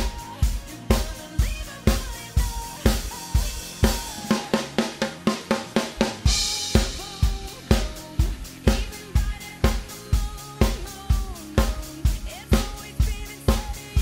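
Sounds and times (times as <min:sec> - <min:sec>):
backing track music: 0:00.0 - 0:14.0
drum kit playing pop beat: 0:00.0 - 0:14.0.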